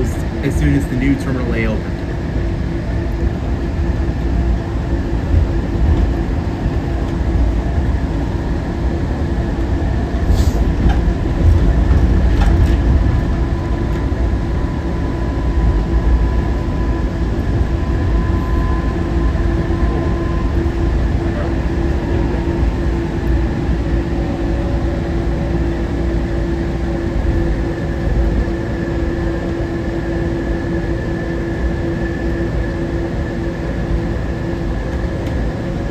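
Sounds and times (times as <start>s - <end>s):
train car rumbling and whining: 0.0s - 35.9s.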